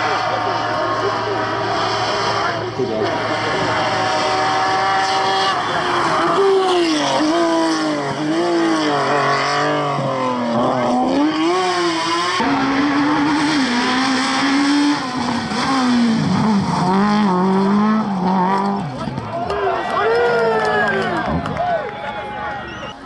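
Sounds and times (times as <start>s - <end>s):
rally car engine revving: 0.0s - 19.7s.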